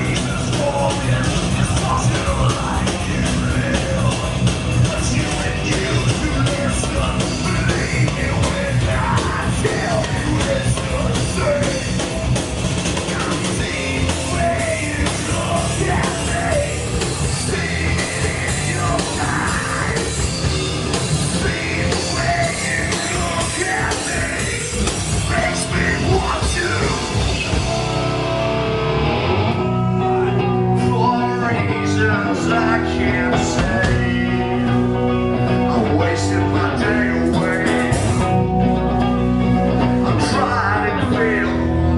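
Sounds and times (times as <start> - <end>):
person singing: 0.0 - 12.2, 13.0 - 20.5, 21.2 - 28.2, 29.0 - 41.9
metal band playing live: 0.0 - 41.9
strummed guitar chords: 0.0 - 41.9.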